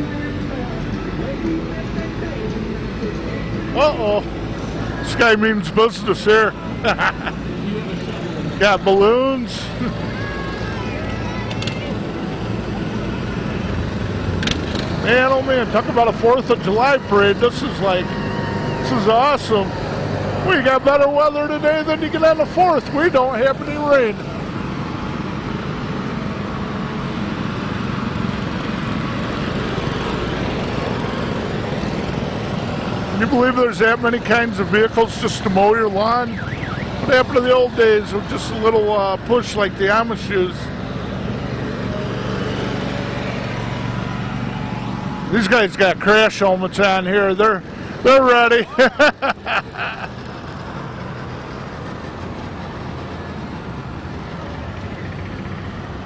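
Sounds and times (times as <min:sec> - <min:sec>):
low engine hum: 0:00.0 - 0:56.0
riding lawn mowers driving past: 0:00.0 - 0:56.0
utility vehicles passing slowly: 0:00.0 - 0:56.0.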